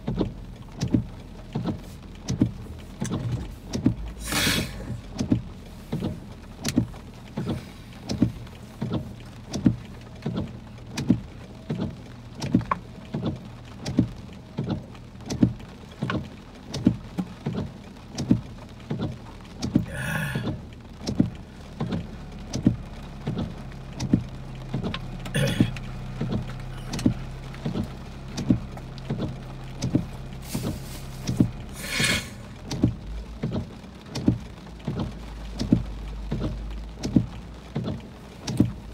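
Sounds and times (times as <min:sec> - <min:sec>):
car engine low hum: 0:00.0 - 0:38.9
heavy rain on car: 0:00.0 - 0:38.9
windshield wipers thumping: 0:00.0 - 0:38.9.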